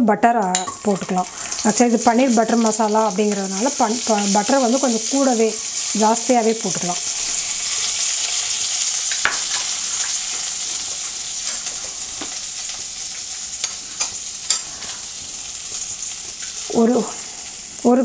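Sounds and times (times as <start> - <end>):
butter sizzling in a pan: 0.4 - 18.0.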